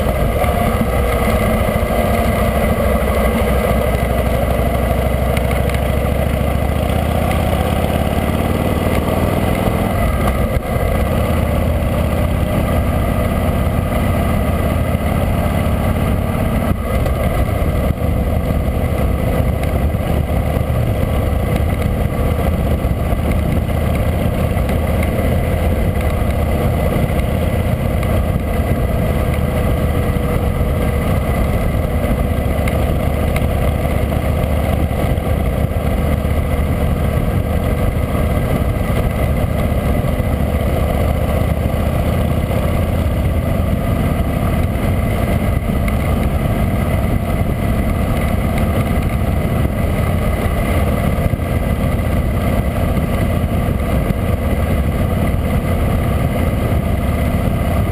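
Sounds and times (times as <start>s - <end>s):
motorcycle engine accelerating: 0.0s - 57.9s
wind on microphone: 0.0s - 57.9s.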